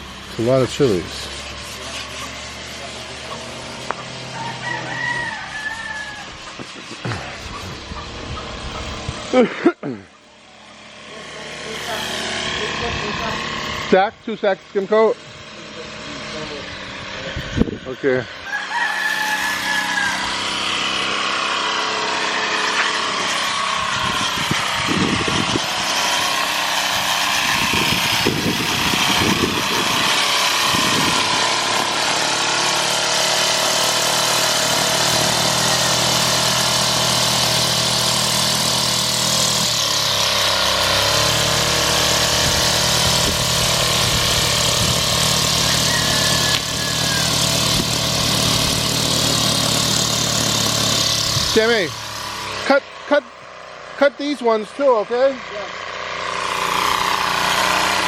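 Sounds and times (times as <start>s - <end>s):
string trimmer engine running: 0.0s - 58.0s.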